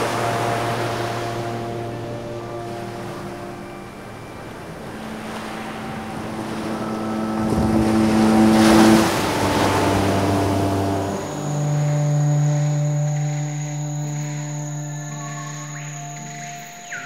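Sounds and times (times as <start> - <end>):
ocean surf rushing: 0.0 - 16.4
ambient music with held notes: 0.0 - 17.0.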